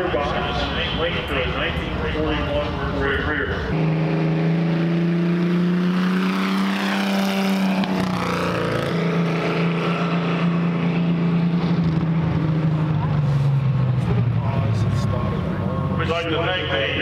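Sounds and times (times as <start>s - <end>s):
race car engine driving past: 0.0s - 17.0s.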